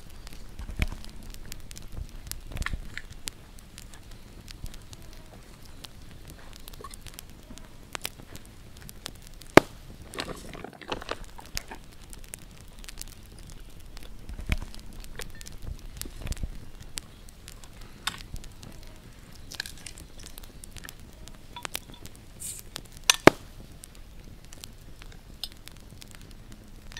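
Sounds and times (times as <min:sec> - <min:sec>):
campfire crackling: 0:00.0 - 0:26.9
sharp pops of fire: 0:00.0 - 0:26.9.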